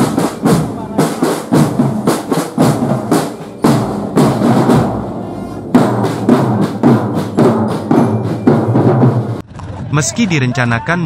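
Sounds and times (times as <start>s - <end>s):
bass drums beating: 0.0s - 9.4s
snare drums beating: 0.0s - 9.4s.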